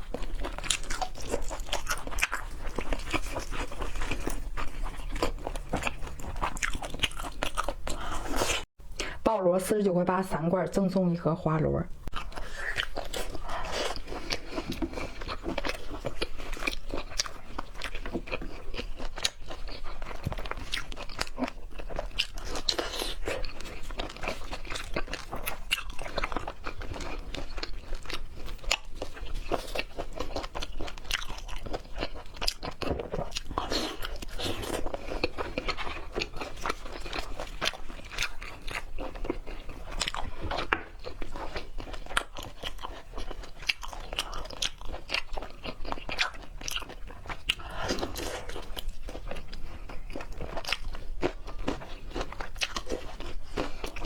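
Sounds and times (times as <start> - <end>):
person chewing crunchy seafood: 0.0 - 9.2, 11.9 - 54.0.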